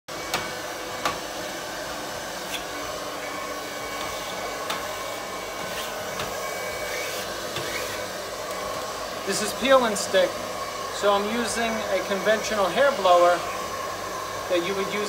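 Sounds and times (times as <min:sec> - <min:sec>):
hair dryer blowing: 0:00.1 - 0:15.0.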